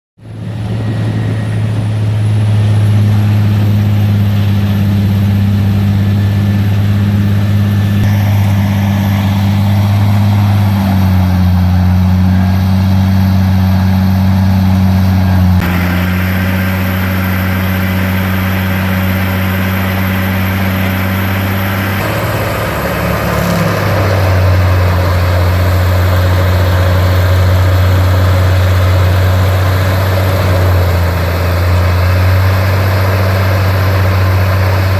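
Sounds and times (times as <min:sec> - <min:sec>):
diesel engine drone: 0:00.2 - 0:34.9
grinding noise: 0:00.5 - 0:34.9.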